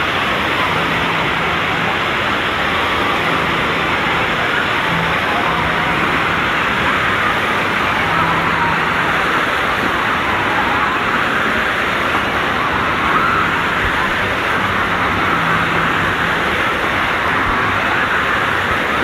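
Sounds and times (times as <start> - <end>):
faint crowd voices: 0.0 - 19.0
surf washing onto a beach: 0.0 - 19.0.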